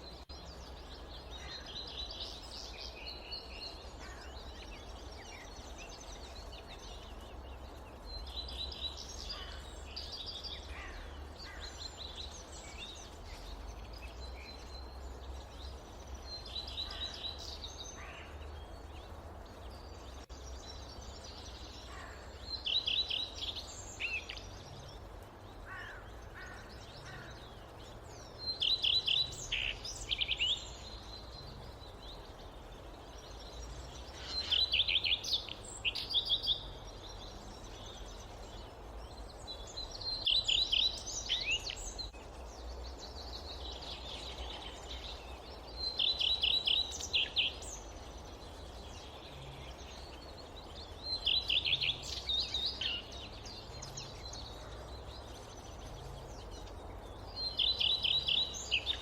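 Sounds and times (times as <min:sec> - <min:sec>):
low forest background noise: 0:00.0 - 0:59.0.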